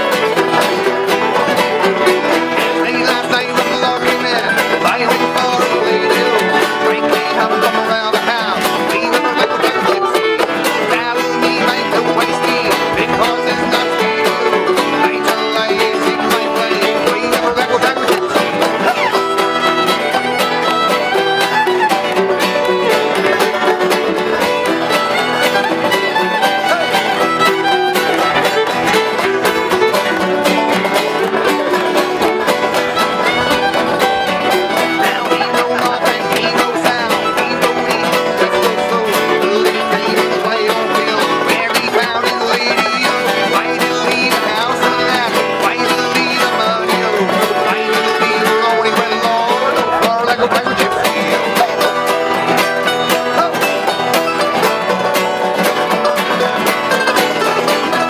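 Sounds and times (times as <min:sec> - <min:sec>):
banjo: 0:00.0 - 0:58.0
fiddle: 0:00.0 - 0:58.0
guitar: 0:00.0 - 0:58.0.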